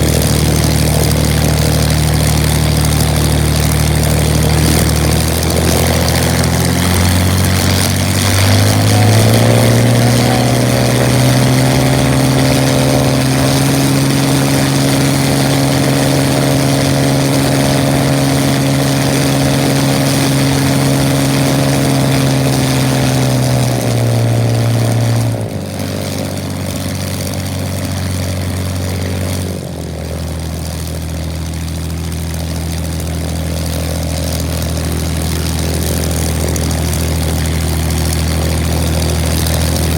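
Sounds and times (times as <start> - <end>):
piston engine and propeller running: 0.0 - 39.9.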